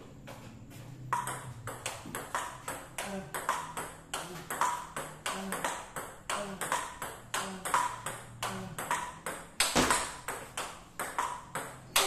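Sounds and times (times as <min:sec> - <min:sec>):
table tennis ball clicking: 0:01.2 - 0:12.0.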